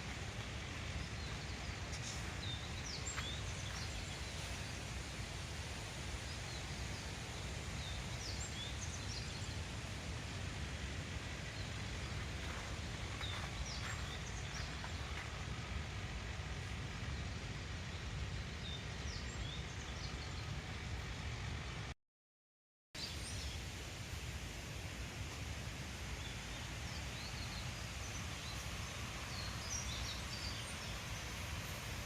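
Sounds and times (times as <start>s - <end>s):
steady hiss: 0.0s - 21.9s, 23.0s - 32.0s.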